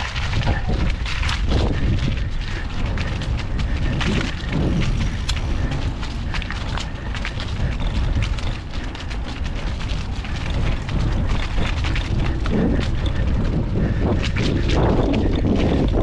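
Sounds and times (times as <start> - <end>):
bike rattling and knocking: 0.0 - 16.0
wind buffeting microphone: 0.0 - 16.0.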